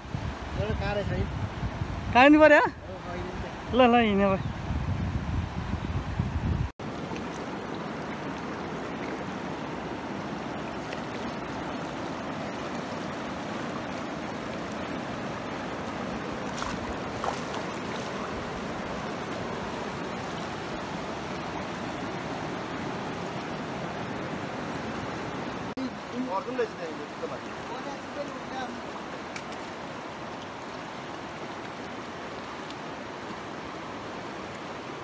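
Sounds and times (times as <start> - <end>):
river rushing over rocks: 6.8 - 35.0.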